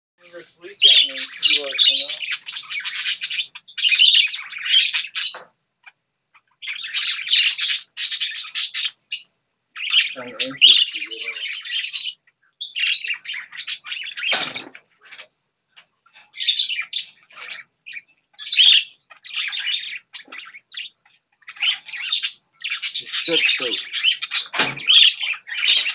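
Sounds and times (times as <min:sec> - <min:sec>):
budgerigars chirping and chattering: 0:00.2 - 0:25.9.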